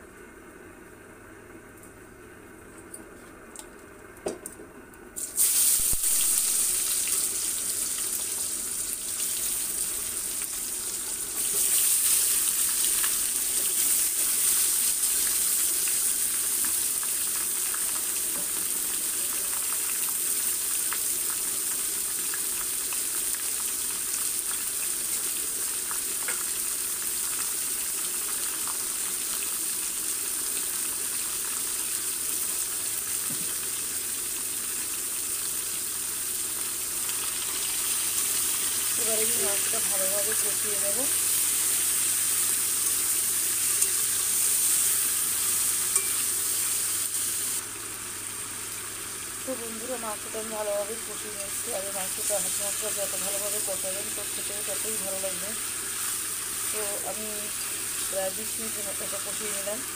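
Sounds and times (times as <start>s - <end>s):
meat sizzling in hot oil: 5.2s - 59.9s.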